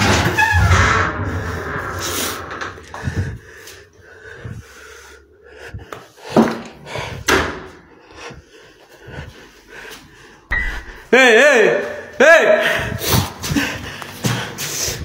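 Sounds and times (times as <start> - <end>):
person breathing: 1.2 - 11.1, 12.6 - 15.0.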